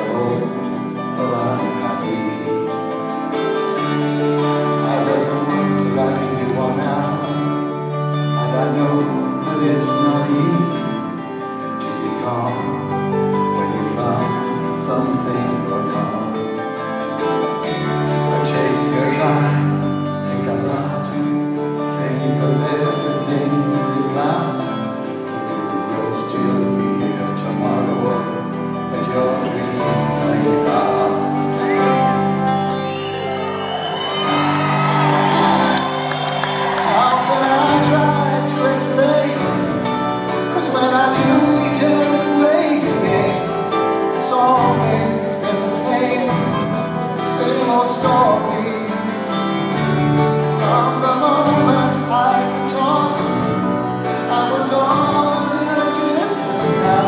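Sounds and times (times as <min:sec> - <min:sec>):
man singing: 0:00.0 - 0:32.8, 0:36.8 - 0:57.0
acoustic guitar: 0:00.0 - 0:57.0
backing band: 0:00.0 - 0:57.0.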